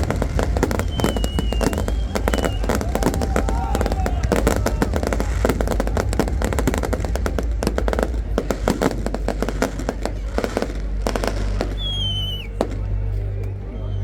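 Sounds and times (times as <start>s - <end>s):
fireworks bangs and crackles: 0.0s - 13.6s
steady low rumble: 0.0s - 14.0s.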